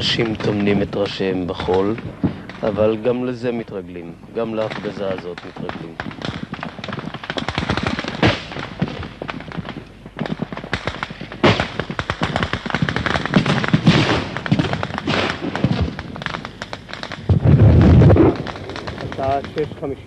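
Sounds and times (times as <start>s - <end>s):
gunshots cracking: 0.0s - 20.0s
loud bangs: 0.0s - 20.0s.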